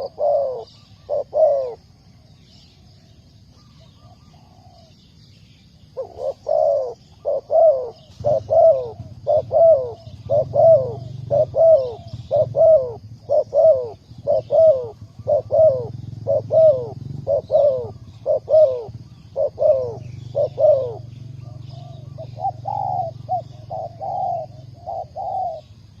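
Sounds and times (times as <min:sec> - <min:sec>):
dove cooing: 0:00.0 - 0:05.1, 0:05.8 - 0:26.0.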